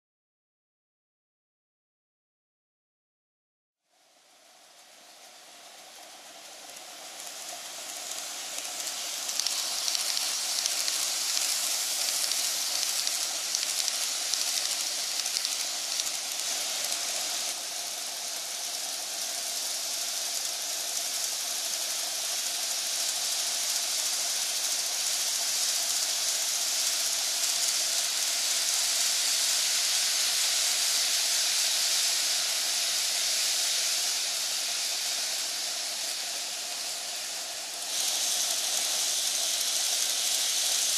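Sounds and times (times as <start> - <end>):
model train wheels rattling on rails: 4.6 - 40.9
electric motor hum: 6.4 - 40.9.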